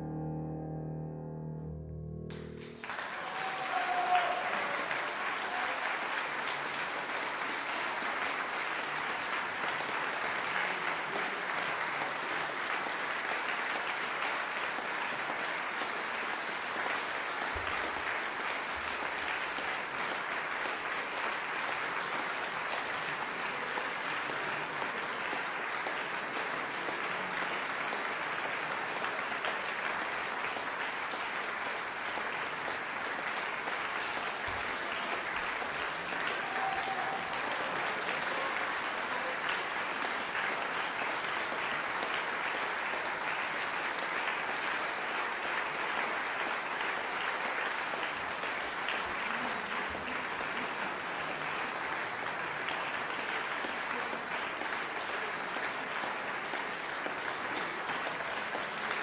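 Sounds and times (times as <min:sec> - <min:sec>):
audience applauding: 0:02.3 - 0:59.0.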